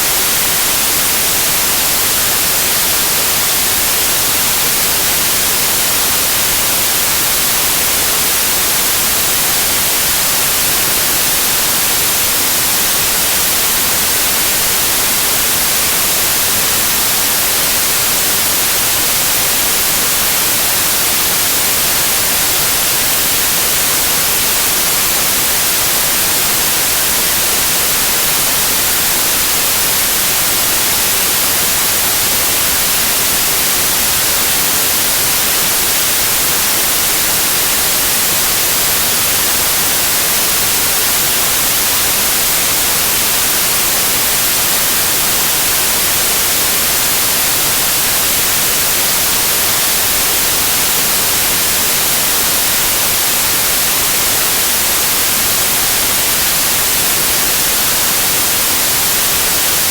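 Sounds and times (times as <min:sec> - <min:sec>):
static white noise hiss: 0:00.0 - 0:59.9.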